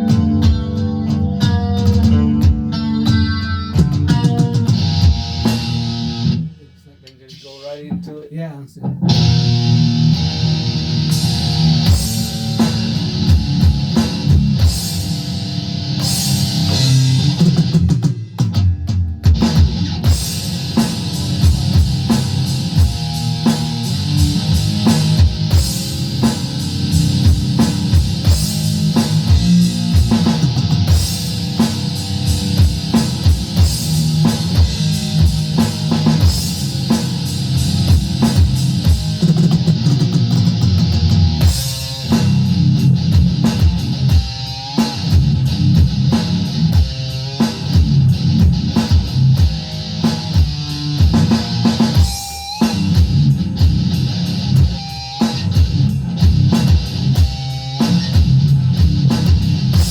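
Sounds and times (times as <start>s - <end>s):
rock music with guitar and drums: 0.0s - 6.8s, 8.9s - 59.9s.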